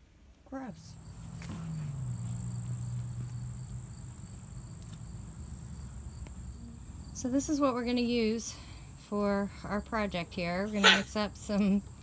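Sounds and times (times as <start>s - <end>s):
insects trilling: 0.6s - 9.4s, 10.4s - 12.0s.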